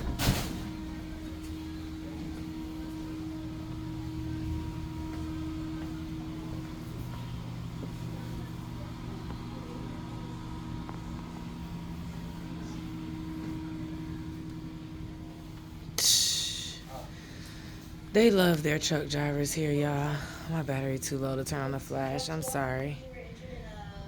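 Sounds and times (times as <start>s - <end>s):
diesel truck engine droning: 0.0s - 22.9s.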